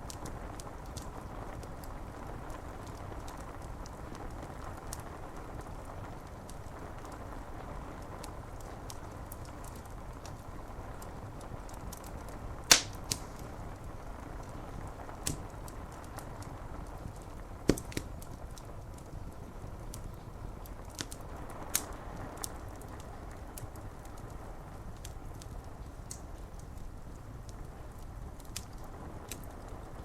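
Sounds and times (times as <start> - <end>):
rain on window glass: 0.0 - 30.0
wood fire crackling and popping: 0.0 - 30.0.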